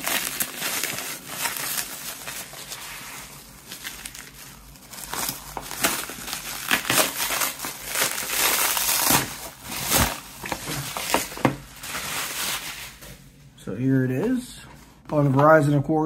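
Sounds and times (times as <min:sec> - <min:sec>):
bubble wrap crinkling: 0:00.0 - 0:13.2.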